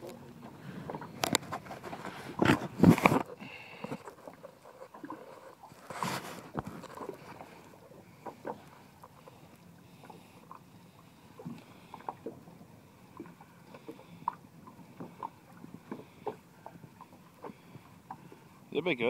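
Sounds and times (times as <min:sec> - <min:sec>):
small waves lapping against boat: 0:00.0 - 0:19.0.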